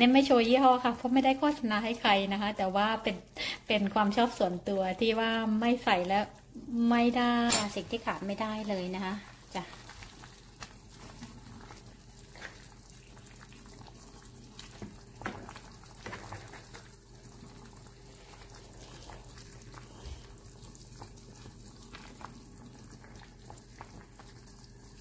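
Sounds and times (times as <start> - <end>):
soup bubbling in a pot: 0.0 - 25.0.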